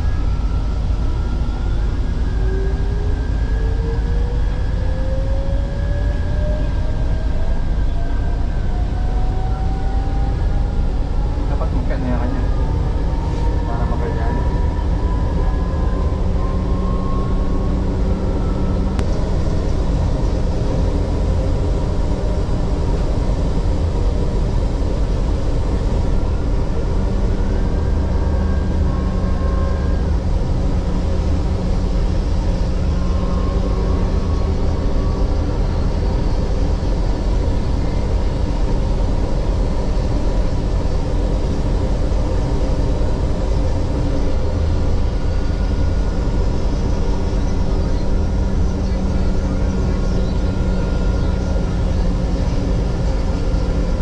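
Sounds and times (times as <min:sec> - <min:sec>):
train wheels rumbling on track: 0:00.0 - 0:54.0
train whine gliding in pitch: 0:00.0 - 0:54.0.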